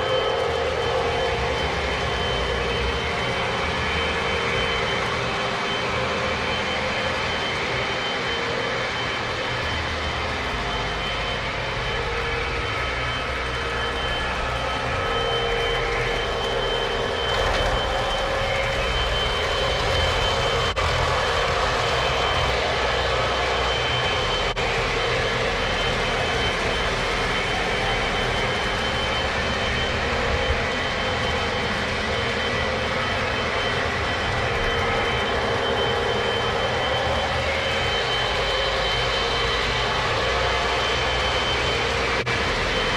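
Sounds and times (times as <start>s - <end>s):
faint held tones: 0.0s - 42.9s.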